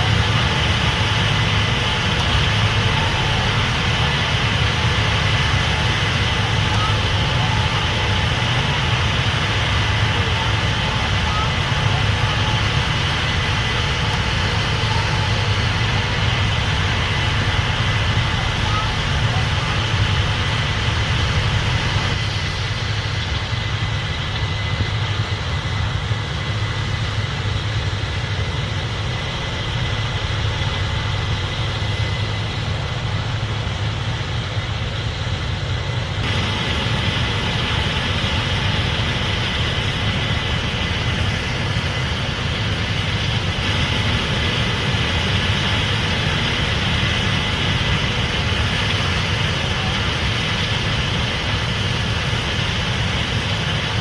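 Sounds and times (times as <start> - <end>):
combine engine drone: 0.0 - 54.0
mechanical hiss and whine: 0.0 - 54.0.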